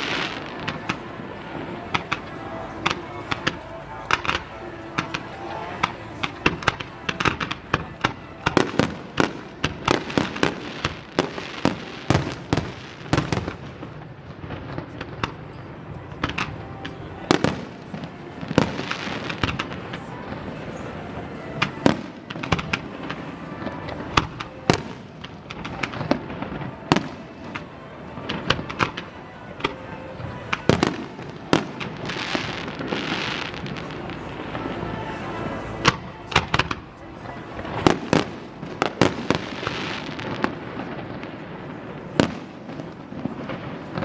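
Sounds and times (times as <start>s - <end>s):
fireworks bangs: 0.0s - 44.0s
fireworks crackling: 0.0s - 44.0s.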